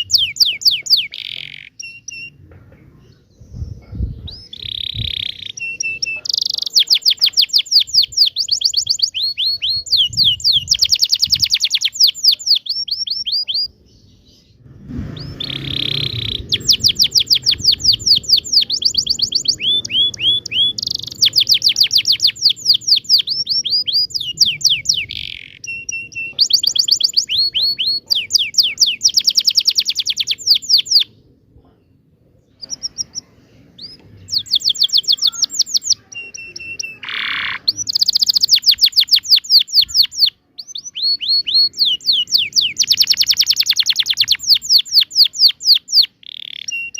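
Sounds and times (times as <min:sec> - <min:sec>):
canary singing trills: 0:00.0 - 0:02.4, 0:03.0 - 0:46.9.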